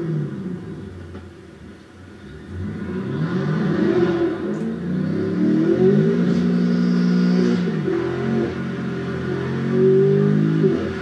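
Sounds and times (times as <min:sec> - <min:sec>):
car engine accelerating hard: 0:02.1 - 0:11.0.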